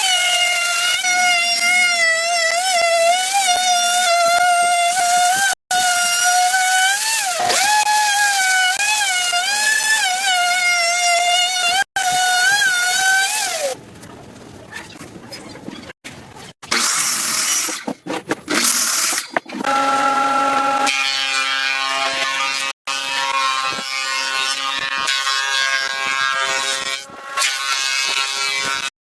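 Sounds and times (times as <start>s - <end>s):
power tools cutting wood: 0.0s - 13.8s, 18.5s - 28.9s.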